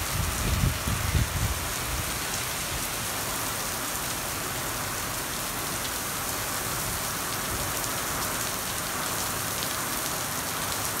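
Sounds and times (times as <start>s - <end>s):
heavy rain on pavement: 0.0s - 11.0s.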